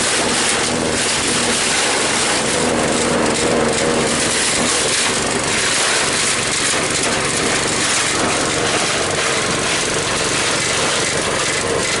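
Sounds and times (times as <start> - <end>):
chopping machine whirring: 0.0 - 12.0.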